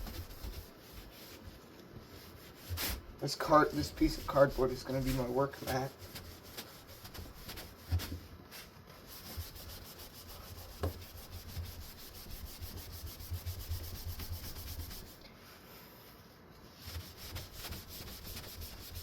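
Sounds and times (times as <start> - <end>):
wipe scrubbing fan blade: 0.0 - 8.2, 9.1 - 15.2, 16.8 - 19.0.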